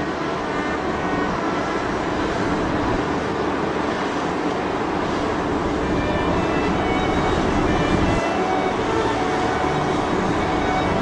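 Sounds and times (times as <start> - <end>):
rushing outdoor noise: 0.0 - 11.0.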